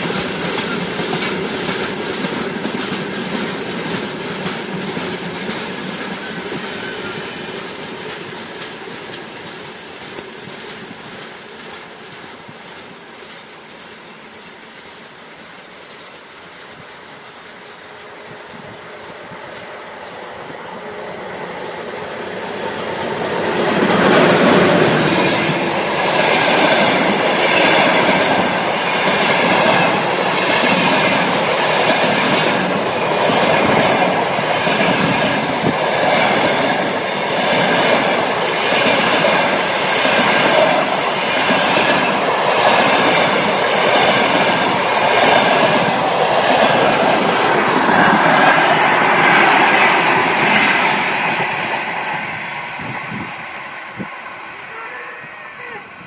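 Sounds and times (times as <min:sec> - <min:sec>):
wheels clacking over rail joints: 0:00.0 - 0:19.1, 0:21.5 - 0:54.0
passenger train passing: 0:00.0 - 0:56.0.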